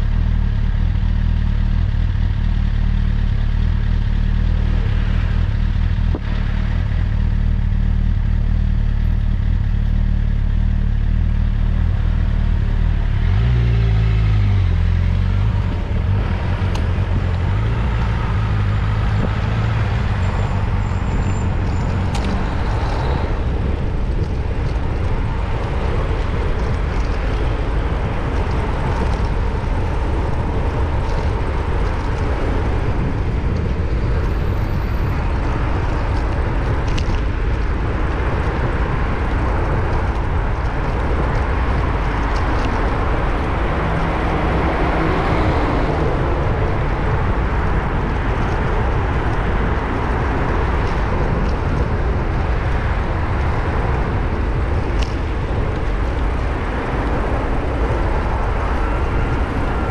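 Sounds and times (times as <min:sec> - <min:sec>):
passing vehicles: 0:00.0 - 0:59.9
wind rumble on microphone: 0:00.0 - 0:59.9.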